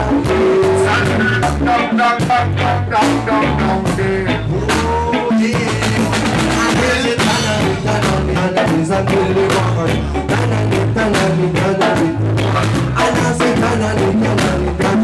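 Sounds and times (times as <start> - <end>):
bass line: 0.0 - 15.0
drum kit beating: 0.0 - 15.0
electric guitar: 0.0 - 15.0.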